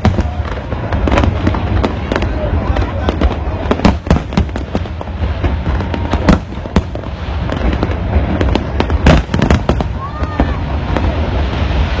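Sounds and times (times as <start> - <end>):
fireworks bangs and crackles: 0.0 - 12.0
low booming rumble: 0.0 - 12.0.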